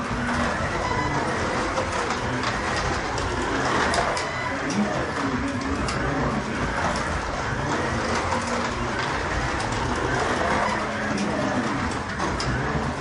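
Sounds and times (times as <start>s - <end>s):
slot car motor whir: 0.0s - 13.0s.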